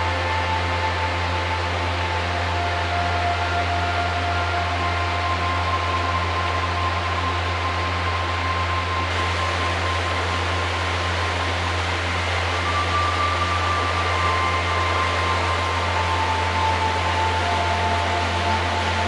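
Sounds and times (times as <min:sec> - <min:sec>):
low hum: 0:00.0 - 0:19.0
steady rushing hiss: 0:00.0 - 0:19.0.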